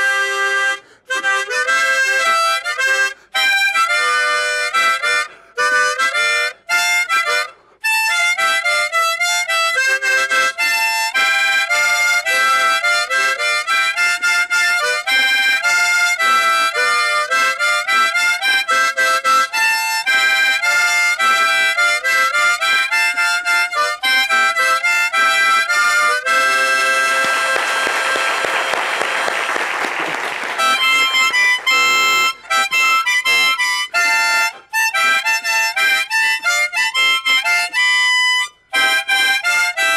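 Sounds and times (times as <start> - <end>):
harmonica melody: 0.0 - 39.9.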